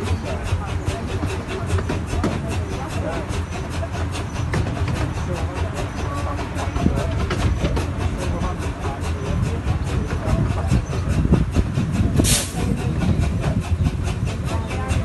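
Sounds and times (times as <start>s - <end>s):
steam hiss: 0.0s - 15.0s
train wheels rumbling: 0.0s - 15.0s.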